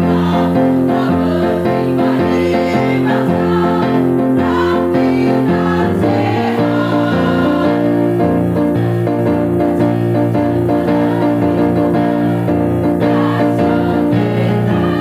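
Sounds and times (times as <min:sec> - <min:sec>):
keyboard accompaniment: 0:00.0 - 0:15.0
women's choir singing: 0:00.0 - 0:15.0.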